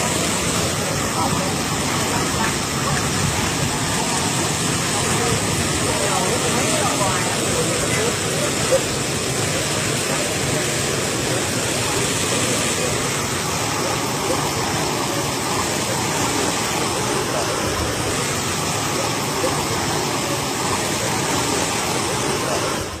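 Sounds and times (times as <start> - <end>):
water jet gushing and splashing: 0.0 - 23.0.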